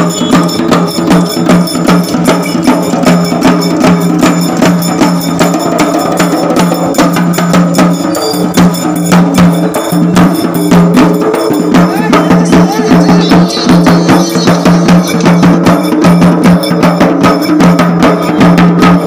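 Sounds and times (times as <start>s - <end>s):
barrel drums beaten with sticks: 0.0s - 19.0s.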